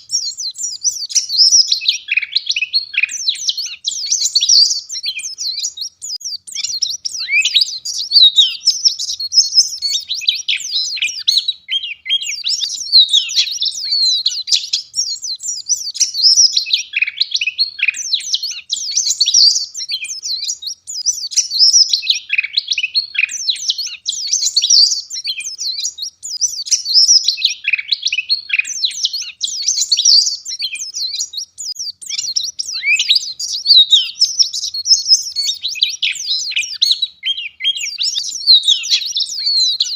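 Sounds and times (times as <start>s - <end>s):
white-eye twittering song: 0.0s - 39.9s.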